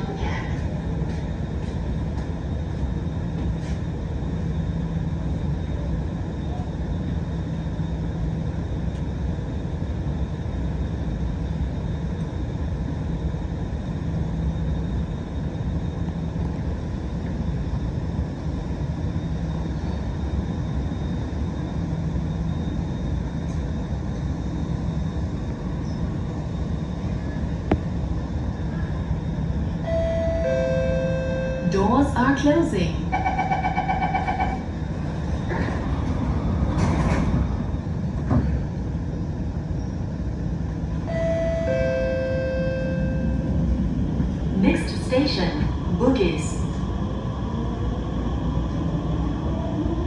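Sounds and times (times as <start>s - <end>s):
train carriage low hum: 0.0s - 50.0s.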